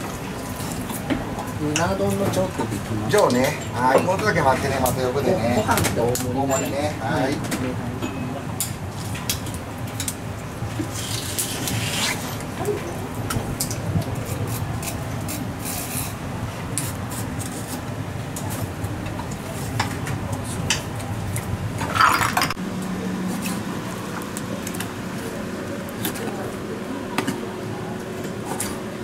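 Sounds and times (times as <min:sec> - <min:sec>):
low kitchen hum: 0:00.0 - 0:29.0.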